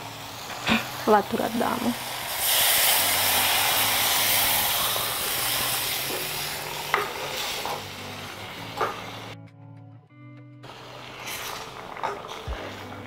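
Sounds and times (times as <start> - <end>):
water sizzling in hot oil: 0.0 - 9.4, 10.7 - 13.0.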